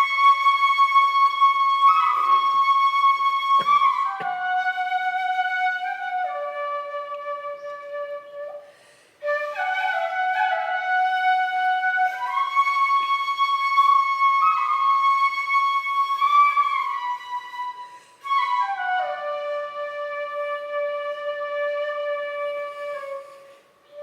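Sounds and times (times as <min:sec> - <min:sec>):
bamboo flute melody: 0:00.0 - 0:24.0.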